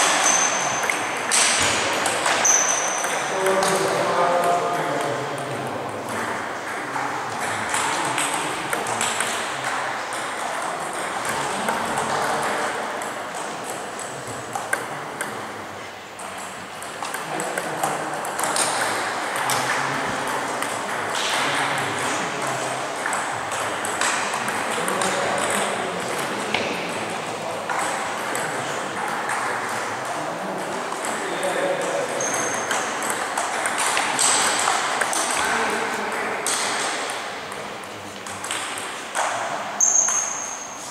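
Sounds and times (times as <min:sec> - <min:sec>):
table tennis balls clicking: 0:00.0 - 0:15.5, 0:16.1 - 0:40.9
background chatter: 0:00.0 - 0:39.8.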